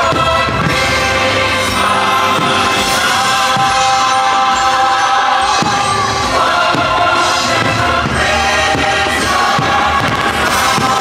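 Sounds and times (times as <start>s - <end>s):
choir singing over music: 0.0s - 11.0s.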